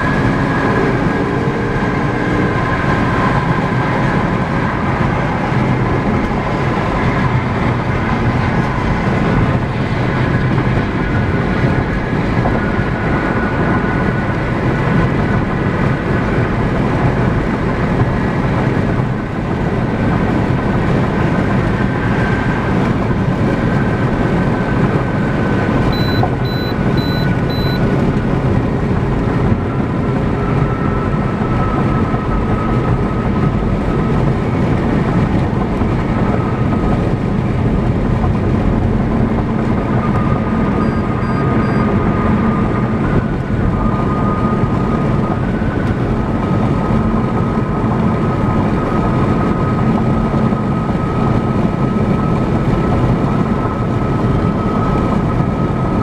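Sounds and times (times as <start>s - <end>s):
car engine rumble: 0.0s - 56.0s
road and tyre noise: 0.0s - 56.0s.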